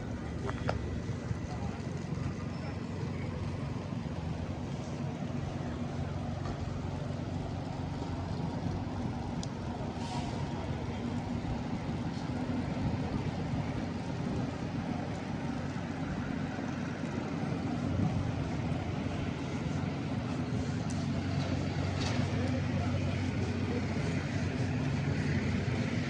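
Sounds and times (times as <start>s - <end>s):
city street traffic: 0.0s - 26.0s
vehicle engine running: 0.0s - 26.0s.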